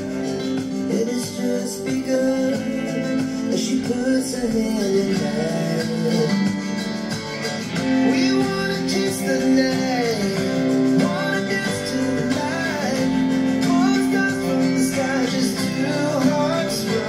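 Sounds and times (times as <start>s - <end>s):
guitar music from speakers: 0.0s - 17.0s.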